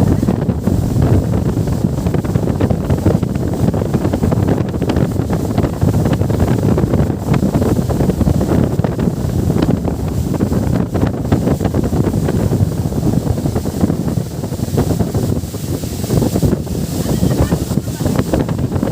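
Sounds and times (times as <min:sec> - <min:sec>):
wind buffeting microphone: 0:00.0 - 0:18.9.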